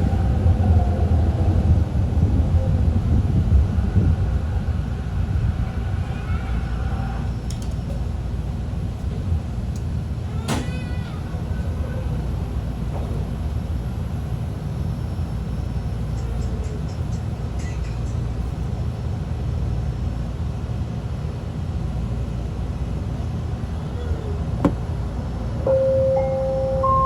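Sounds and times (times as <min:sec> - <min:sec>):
train carriage rumbling: 0:00.0 - 0:27.0.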